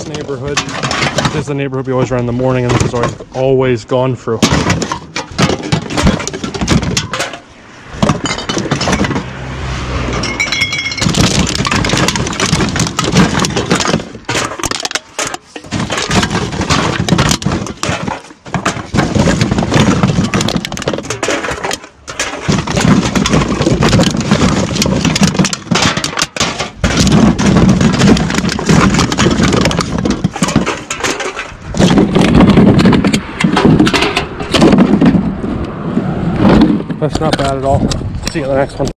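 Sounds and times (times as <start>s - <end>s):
bottles and cans clattering: 0.0s - 3.3s, 4.3s - 9.3s, 10.1s - 35.2s.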